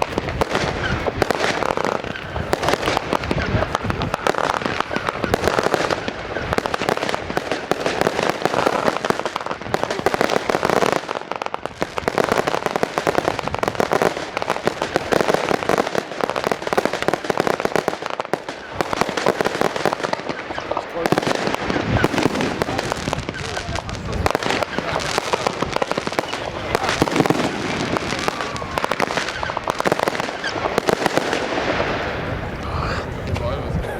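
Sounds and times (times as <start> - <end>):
fireworks popping and crackling: 0.0 - 33.9.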